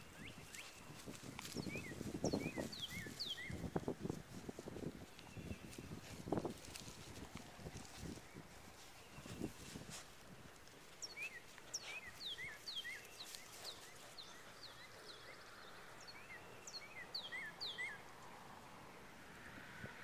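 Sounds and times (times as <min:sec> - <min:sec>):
faint outdoor background noise: 0:00.0 - 0:20.0
songbird chirping: 0:00.0 - 0:20.0.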